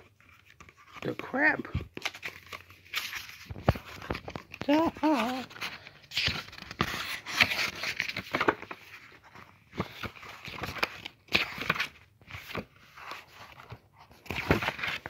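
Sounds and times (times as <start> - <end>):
book pages rustling: 0.0 - 15.0.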